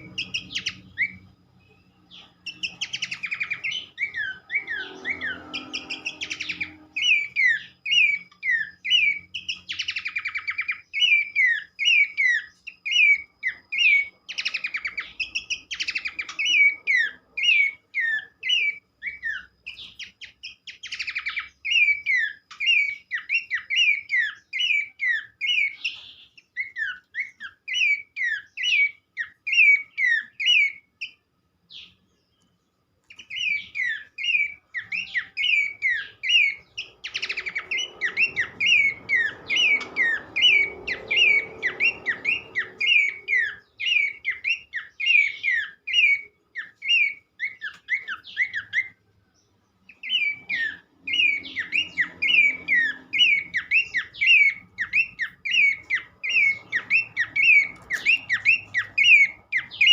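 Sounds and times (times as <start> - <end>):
bird whistling notes: 0.0 - 32.0, 33.1 - 49.0, 49.8 - 59.9.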